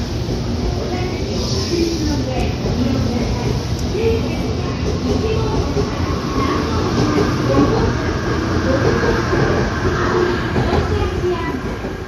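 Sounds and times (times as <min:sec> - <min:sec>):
electric train passing on rails: 0:00.0 - 0:12.0.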